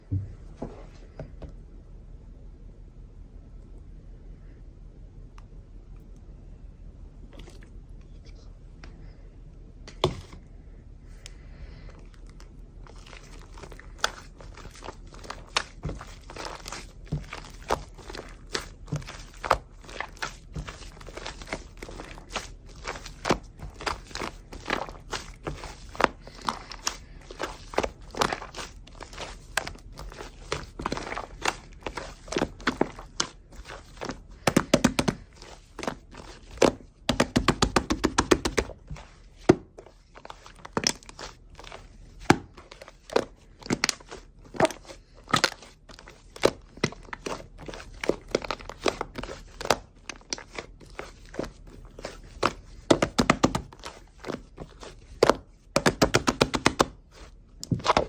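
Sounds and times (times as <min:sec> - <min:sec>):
slime squished by hand: 0:07.3 - 0:07.8, 0:11.2 - 0:58.0.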